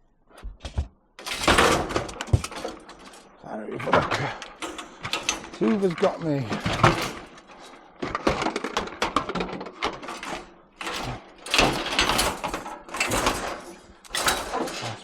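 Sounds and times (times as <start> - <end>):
scrap items scraping and clattering: 0.7 - 15.0.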